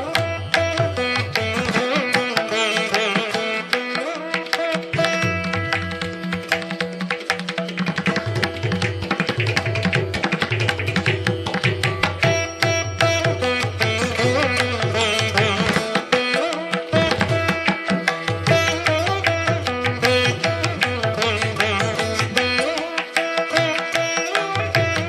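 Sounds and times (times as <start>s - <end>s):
indian classical music: 0.0s - 25.0s.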